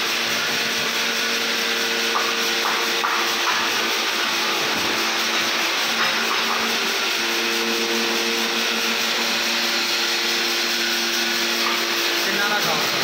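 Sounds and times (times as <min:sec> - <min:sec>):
woodworking machinery whirring: 0:00.0 - 0:13.0.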